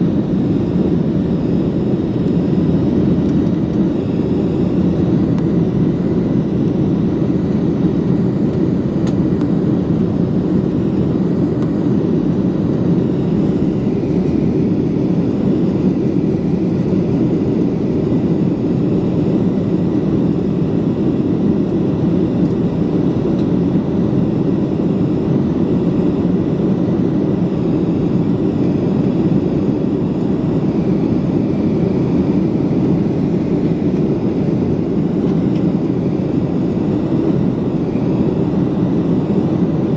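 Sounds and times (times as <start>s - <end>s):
airliner cabin engine rumble: 0.0s - 39.9s
faint steady whine: 0.0s - 39.9s.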